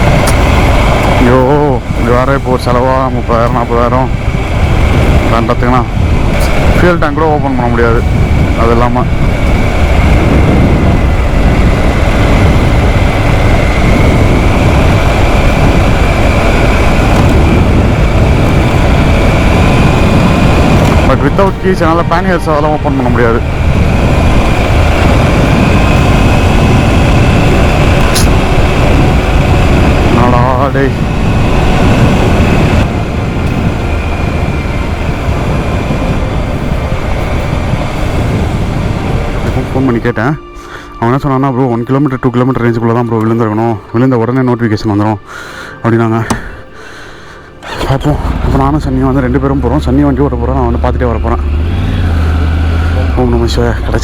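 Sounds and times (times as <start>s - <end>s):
motorcycle engine running: 0.0s - 40.0s, 47.6s - 54.0s
wind rush on microphone: 0.0s - 43.8s, 46.2s - 54.0s
faint steady whine: 0.0s - 54.0s.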